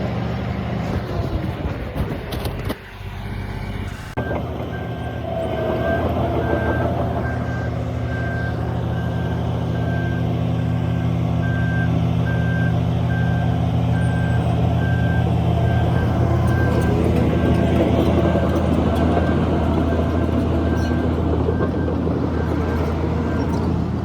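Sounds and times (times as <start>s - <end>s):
diesel engine running: 0.0s - 24.0s
reversing alarm beeping: 4.2s - 23.6s.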